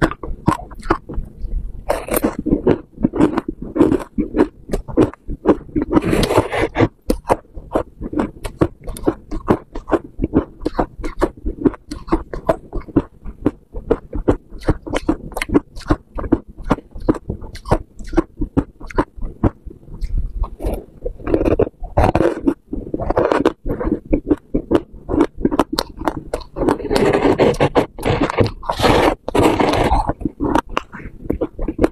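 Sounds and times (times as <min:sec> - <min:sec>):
chewing frost crunches: 0:00.0 - 0:31.9.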